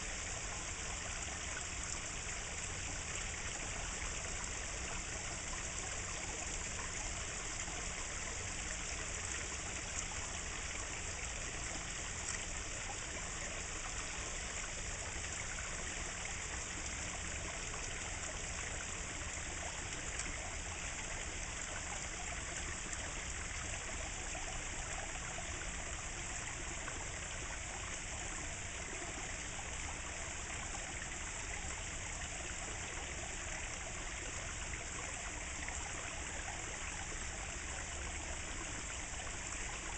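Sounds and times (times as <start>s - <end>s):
running and trickling water: 0.0s - 39.9s.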